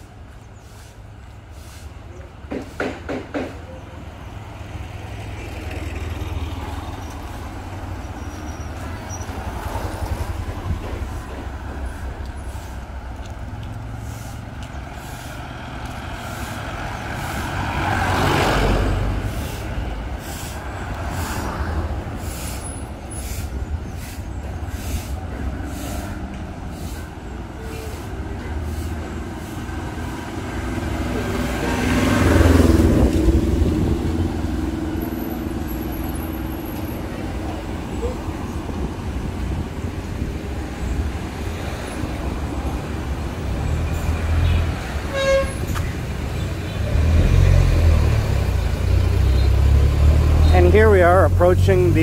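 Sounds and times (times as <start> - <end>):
heavy traffic rumble: 0.0 - 52.0
heavy vehicle passing close: 4.0 - 52.0.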